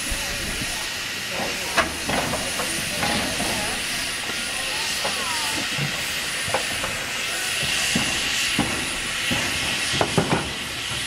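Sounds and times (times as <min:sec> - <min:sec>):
steam locomotive hissing: 0:00.0 - 0:11.0.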